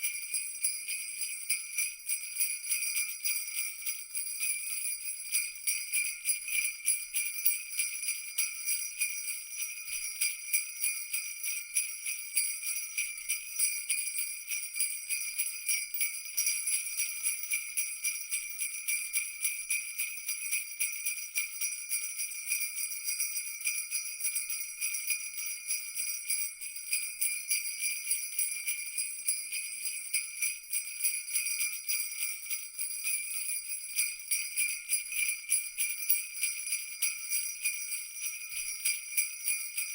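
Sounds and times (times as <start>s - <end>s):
jingle bells shaken: 0.0s - 39.9s.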